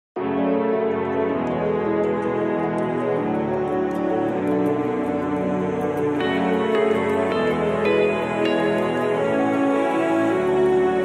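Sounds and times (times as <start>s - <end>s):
soft melodic music: 0.2s - 11.0s.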